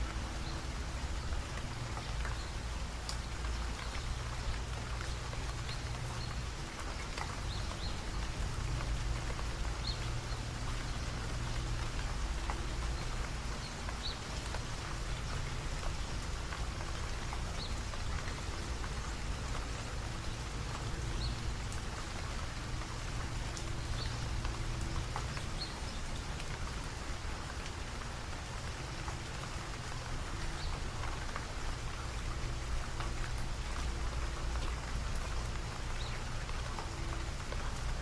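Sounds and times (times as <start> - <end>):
sharp water drips: 0.0 - 38.0
steady rain falling: 0.0 - 38.0.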